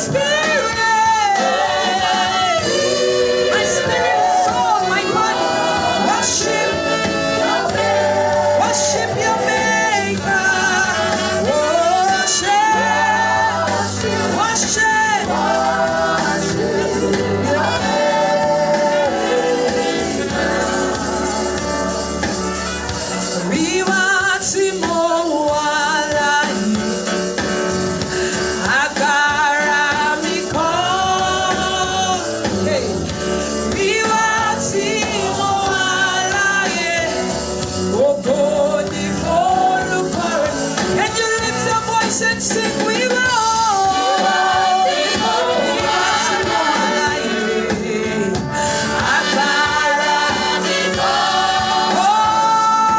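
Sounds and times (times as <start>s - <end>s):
voices singing gospel: 0.0s - 52.9s
sustained instrumental accompaniment: 0.6s - 52.9s.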